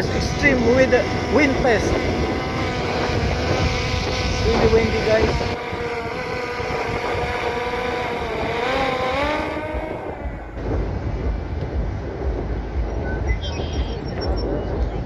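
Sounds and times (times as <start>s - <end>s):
drone propellers whining: 0.0s - 15.0s
wind rumbling on microphone: 0.0s - 15.0s.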